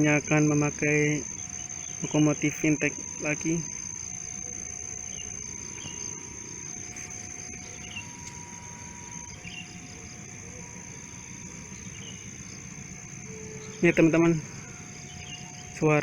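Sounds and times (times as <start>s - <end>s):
bird chirps: 0.0s - 16.0s
crickets chirring: 0.0s - 16.0s.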